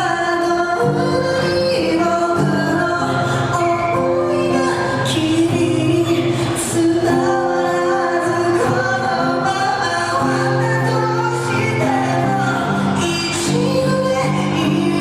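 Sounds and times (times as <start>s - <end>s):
person singing a pop song: 0.0s - 15.0s.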